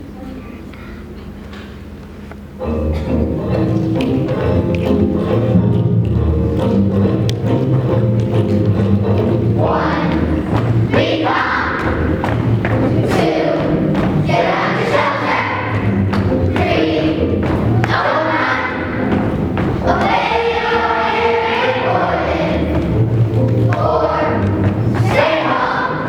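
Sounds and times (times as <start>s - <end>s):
music: 1.6s - 26.0s
children's choir singing: 2.6s - 26.0s.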